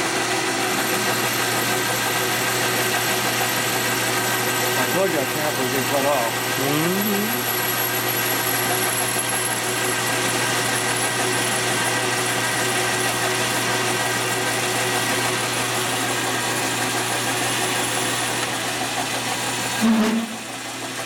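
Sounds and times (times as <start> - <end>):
metal lathe hum: 0.0 - 21.0.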